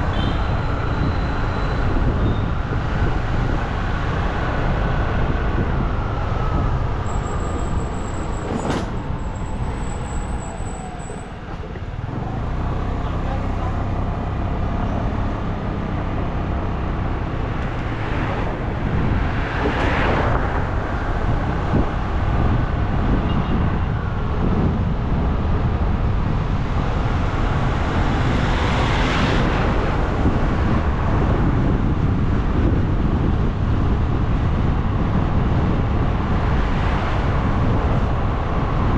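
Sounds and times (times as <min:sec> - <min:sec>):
vehicles passing: 0:00.0 - 0:38.9
wind and engine rumble: 0:00.0 - 0:38.9.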